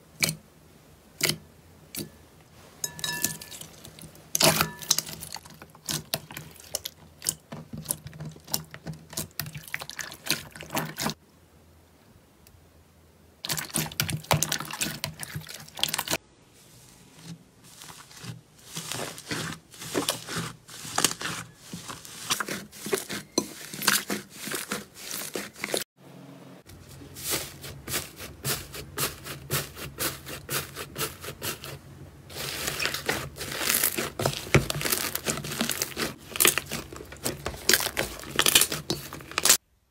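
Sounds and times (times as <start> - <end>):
hands squishing sticky slime: 3.1 - 11.2, 13.4 - 16.2, 17.2 - 25.8, 27.1 - 39.6.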